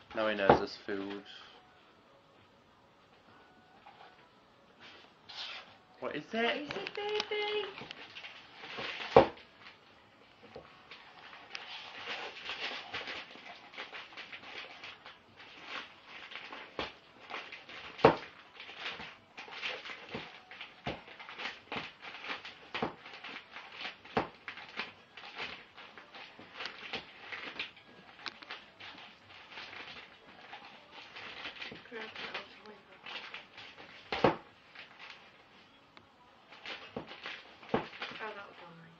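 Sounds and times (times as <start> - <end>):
paper crinkling: 6.4 - 35.7, 36.4 - 38.8.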